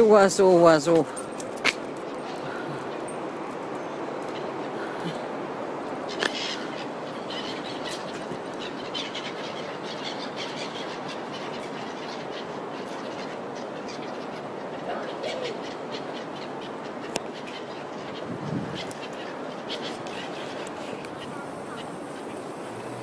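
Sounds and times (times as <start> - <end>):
outdoor background rush: 0.0 - 23.0
seagulls calling: 0.0 - 23.0.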